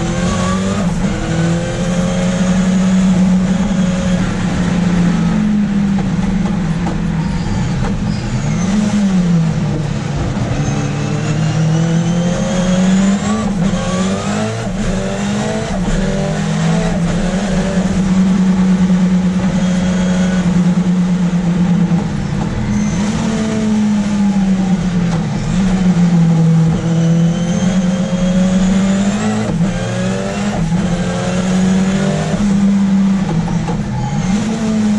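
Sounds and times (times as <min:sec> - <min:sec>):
race car engine accelerating: 0:00.0 - 0:34.9.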